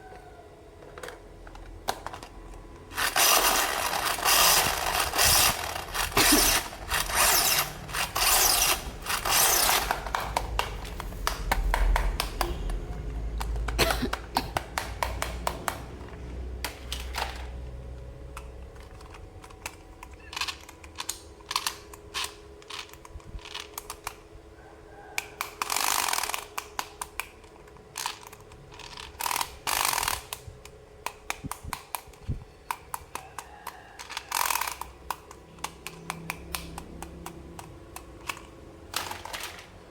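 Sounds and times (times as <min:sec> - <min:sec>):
plastic toy parts clicking and tapping: 0:00.8 - 0:24.3, 0:25.2 - 0:39.9.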